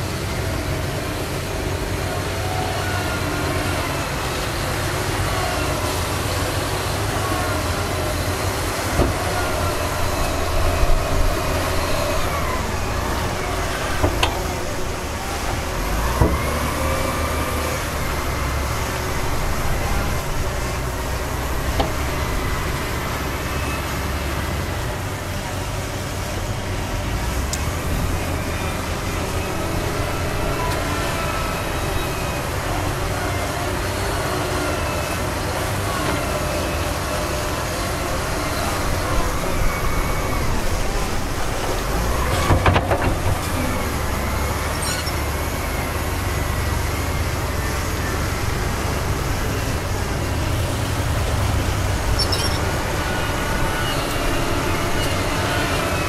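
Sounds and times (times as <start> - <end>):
heavy machinery engine rumble: 0.0 - 56.0.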